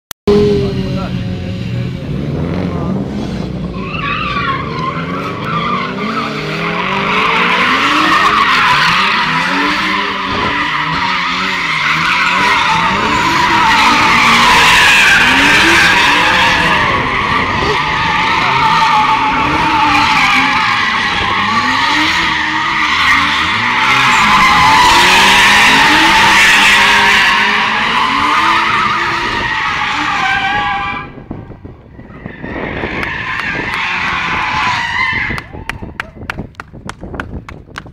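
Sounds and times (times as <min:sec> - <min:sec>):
car engine revving: 0:00.3 - 0:31.4.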